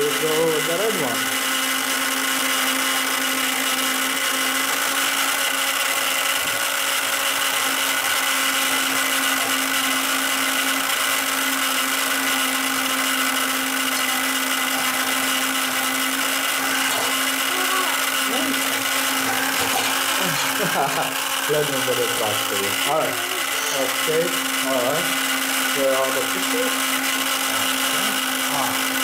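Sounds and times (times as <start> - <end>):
small electric motor whirring: 0.0 - 29.0.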